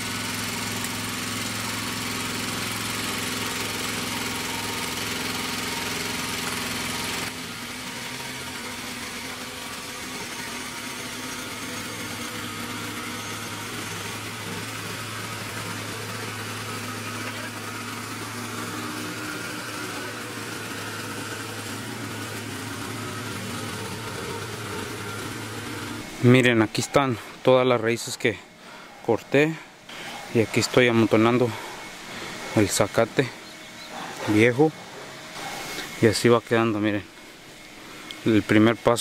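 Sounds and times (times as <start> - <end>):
small gasoline engine running: 0.0 - 39.0.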